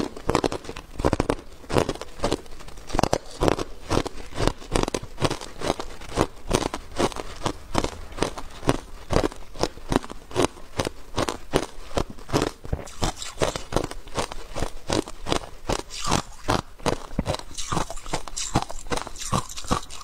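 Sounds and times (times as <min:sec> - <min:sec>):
ice crunching as it is chewed: 0:00.0 - 0:20.0.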